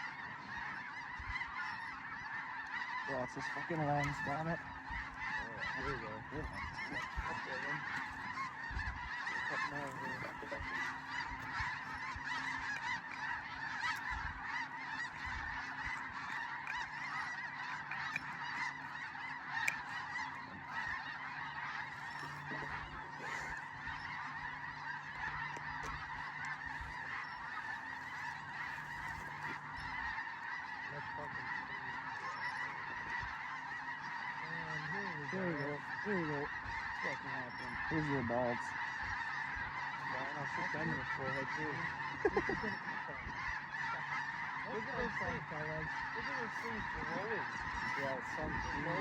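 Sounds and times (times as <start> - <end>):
geese honking: 0.0 - 49.0.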